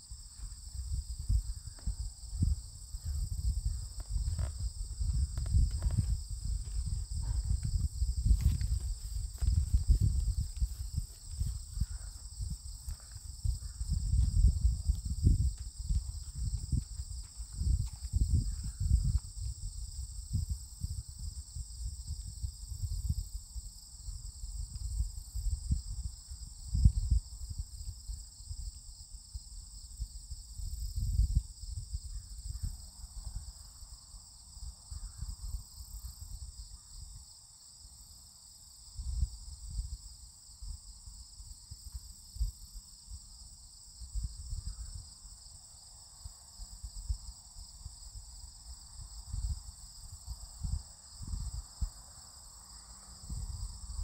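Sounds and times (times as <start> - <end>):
wind buffeting microphone: 0.0 - 33.8, 38.9 - 43.2, 44.0 - 45.6, 46.5 - 52.1, 53.1 - 54.0
insect chorus: 0.0 - 54.0.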